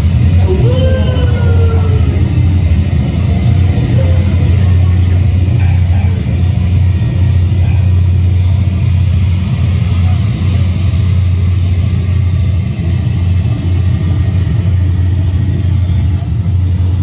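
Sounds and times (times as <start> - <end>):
murmur of voices: 0.0 - 12.0, 13.6 - 17.0
jet rumble over loudspeakers: 0.0 - 17.0.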